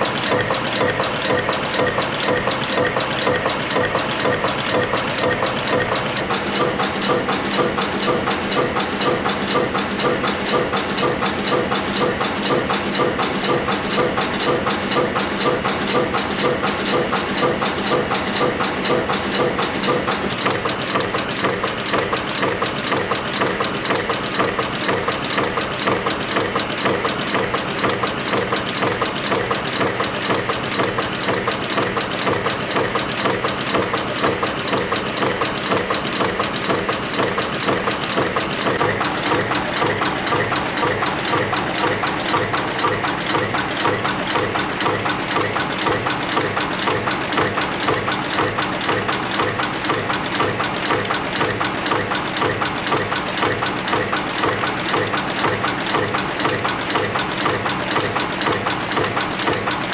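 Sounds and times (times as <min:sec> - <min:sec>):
wire forming machine strokes: 0:00.0 - 0:59.9.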